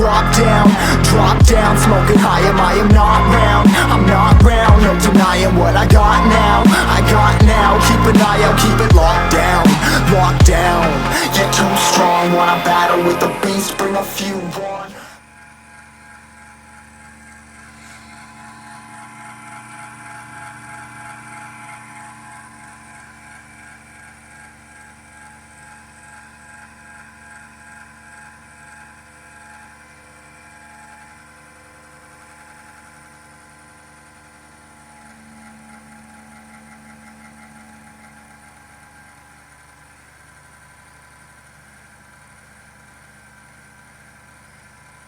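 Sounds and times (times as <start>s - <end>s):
steady machine hum: 0.0s - 45.0s.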